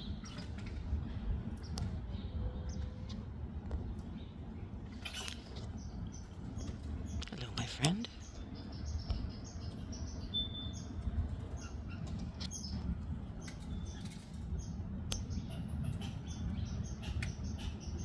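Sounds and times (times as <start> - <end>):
bird chirp: 0.0 - 18.0
low outdoor rumble: 0.0 - 18.0.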